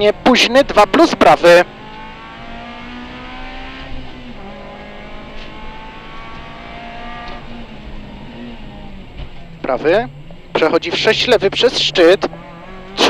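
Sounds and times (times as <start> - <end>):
car engine pulling hard: 0.0 - 13.0
road noise: 0.0 - 13.0.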